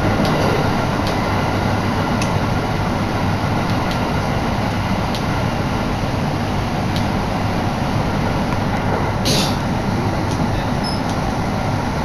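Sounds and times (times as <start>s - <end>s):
train running noise: 0.0s - 12.0s
wind through open window: 0.0s - 12.0s.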